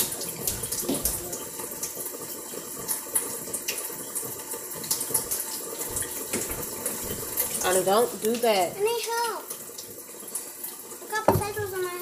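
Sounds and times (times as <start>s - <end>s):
faucet running into sink: 0.0s - 12.0s.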